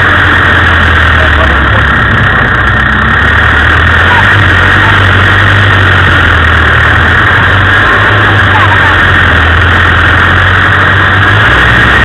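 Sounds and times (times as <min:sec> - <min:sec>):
heavy rushing noise: 0:00.0 - 0:12.0
off-road vehicle engine droning: 0:00.0 - 0:12.0.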